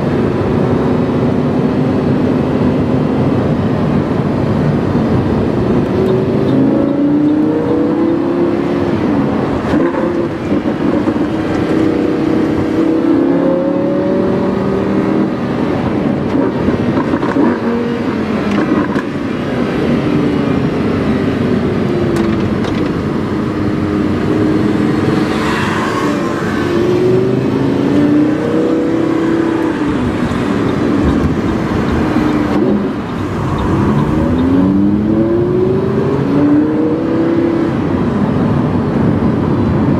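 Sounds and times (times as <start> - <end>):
sports car engine revving: 5.8 - 38.0.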